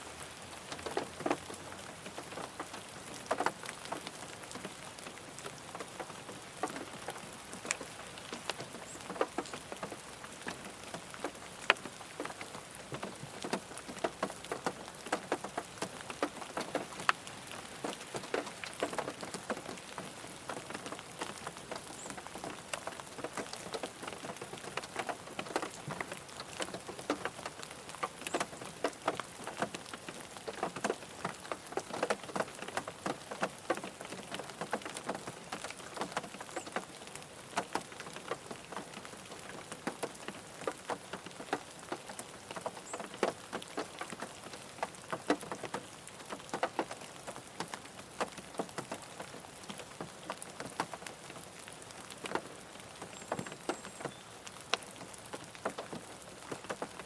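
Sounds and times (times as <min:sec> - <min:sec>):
rain pattering on a car: 0:00.0 - 0:57.0
rainfall hiss: 0:00.0 - 0:57.0.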